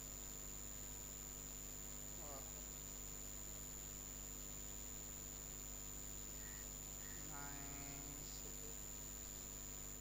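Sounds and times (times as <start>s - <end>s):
electrical hum and hiss: 0.0s - 10.0s
thin high whine: 0.0s - 10.0s.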